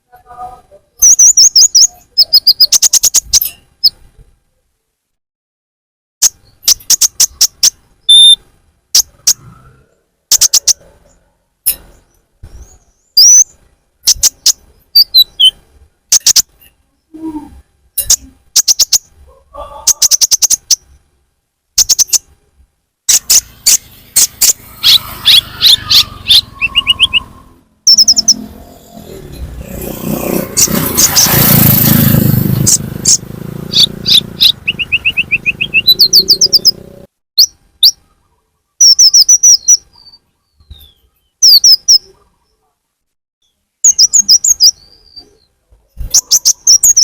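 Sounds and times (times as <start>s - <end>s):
high bird chirps and trills: 1.0s - 4.0s, 6.2s - 21.0s, 21.8s - 22.4s, 23.1s - 42.7s, 43.4s - 47.0s.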